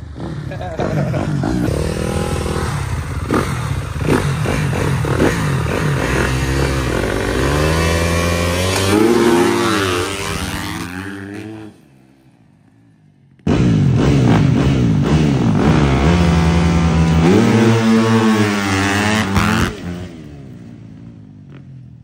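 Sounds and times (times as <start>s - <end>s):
dirt bike engine revving: 0.0s - 12.1s, 13.4s - 20.6s.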